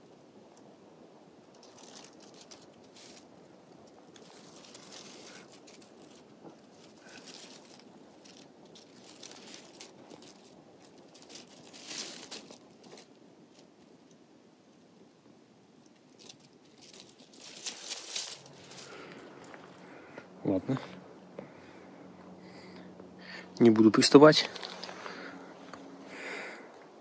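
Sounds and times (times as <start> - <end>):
dry leaves rustling and crunching: 0.0 - 14.9, 15.8 - 22.8, 24.0 - 26.6.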